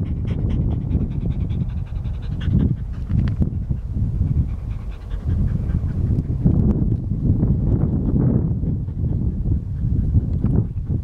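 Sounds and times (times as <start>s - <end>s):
dog panting: 0.0s - 6.8s, 7.7s - 11.0s.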